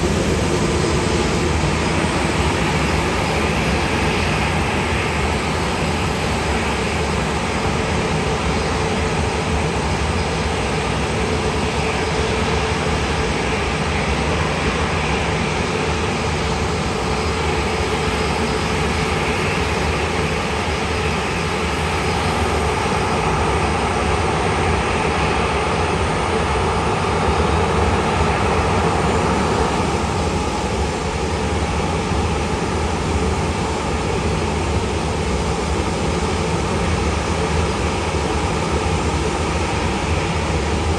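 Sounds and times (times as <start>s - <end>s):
jet engines rushing: 0.0s - 40.9s.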